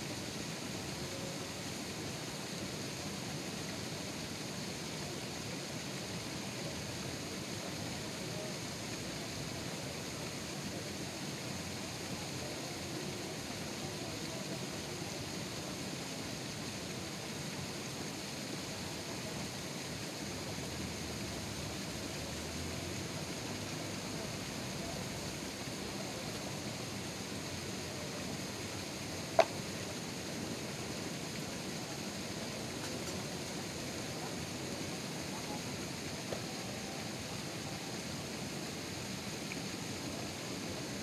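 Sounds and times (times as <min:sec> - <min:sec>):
steady background noise: 0:00.0 - 0:41.0.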